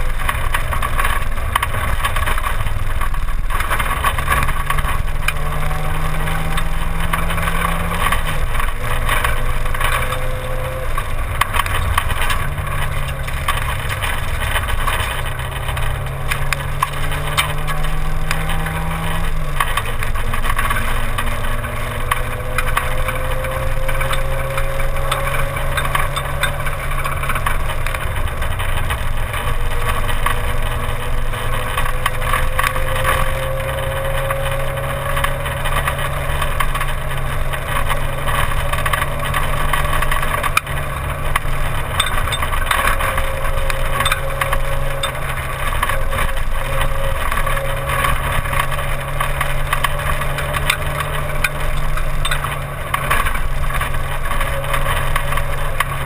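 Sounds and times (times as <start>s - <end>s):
rally car engine drone: 0.0s - 56.0s
rattling: 0.0s - 56.0s
wind and road noise: 0.0s - 56.0s.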